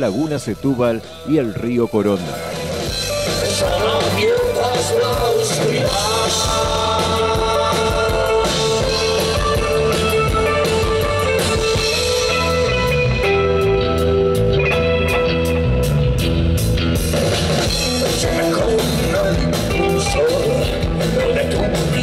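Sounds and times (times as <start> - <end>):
rock music with guitar: 0.0 - 22.0.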